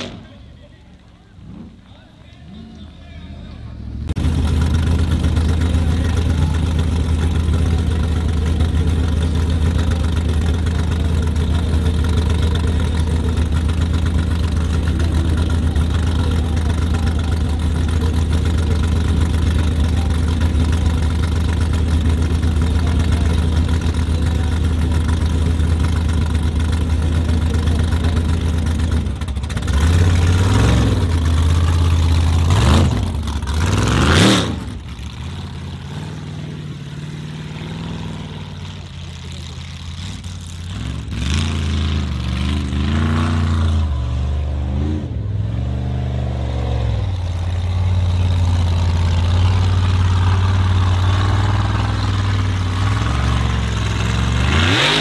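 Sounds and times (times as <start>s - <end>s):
buggy engine idling and revving: 0.0s - 55.0s.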